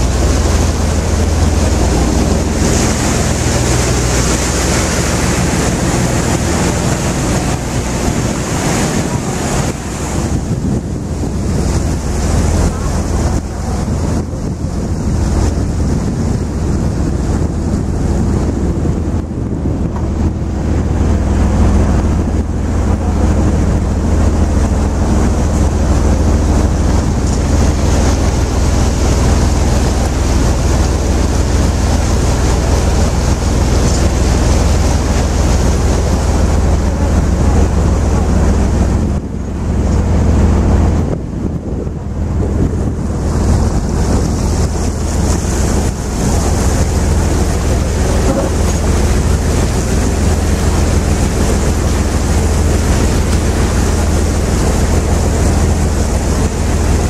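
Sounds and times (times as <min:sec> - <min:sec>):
boat engine drone: 0:00.0 - 0:57.0
water rushing past hull: 0:00.0 - 0:57.0
wind buffeting microphone: 0:00.0 - 0:57.0.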